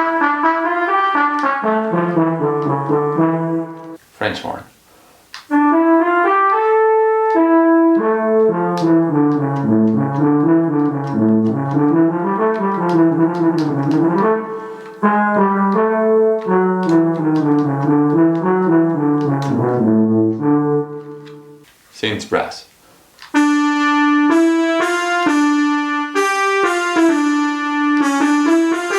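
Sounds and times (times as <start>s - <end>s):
synthesized brass melody: 0.0s - 4.0s, 5.5s - 21.7s, 23.3s - 28.9s.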